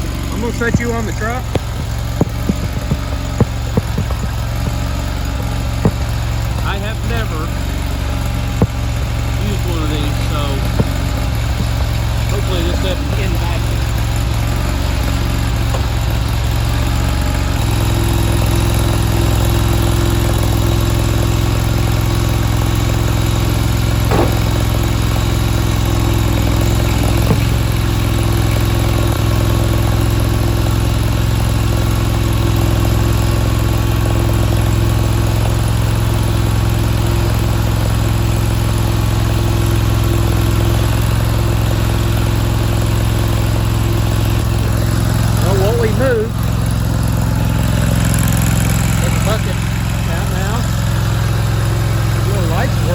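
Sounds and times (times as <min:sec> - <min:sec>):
gasoline engine running: 0:00.0 - 0:52.9.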